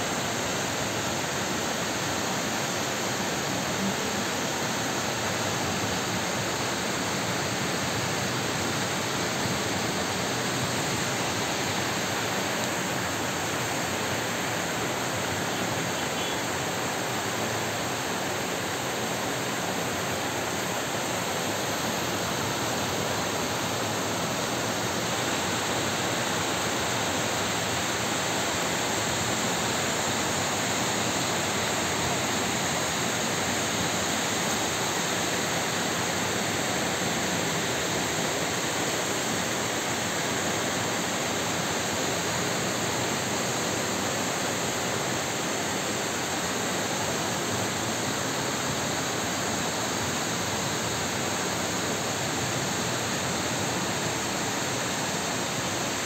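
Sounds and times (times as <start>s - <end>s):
floodwater rushing down street: 0.0s - 56.0s
heavy rain: 0.0s - 56.0s.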